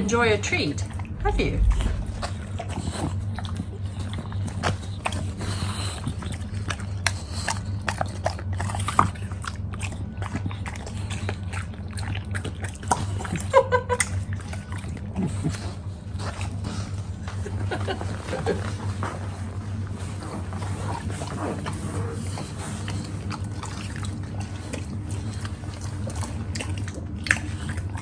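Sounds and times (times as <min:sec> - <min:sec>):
dog chewing and crunching apple: 0:00.9 - 0:28.0.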